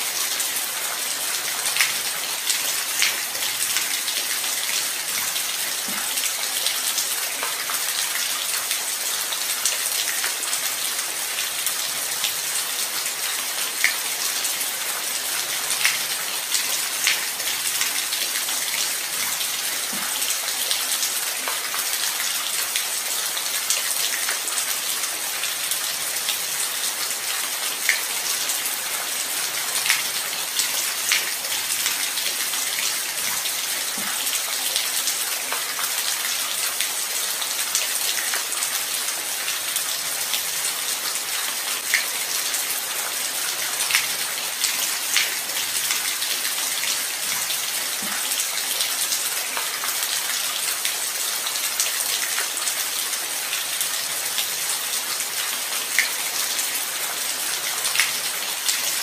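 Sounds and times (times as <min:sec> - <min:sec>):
steady light rain: 0:00.0 - 0:59.0.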